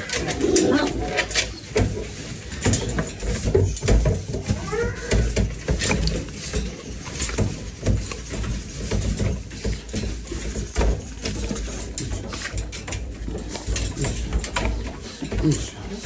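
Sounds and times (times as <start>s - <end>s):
puppies scratching in bedding: 0.0s - 16.0s.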